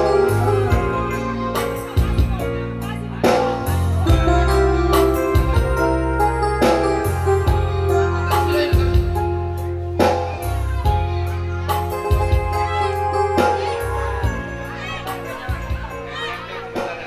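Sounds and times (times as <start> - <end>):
electronic keyboard: 0.0 - 17.0
held bass line: 0.0 - 17.0.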